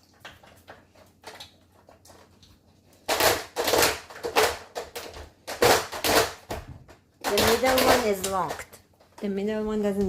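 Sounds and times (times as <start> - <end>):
plastic toy clattering and scraping: 0.0 - 9.3.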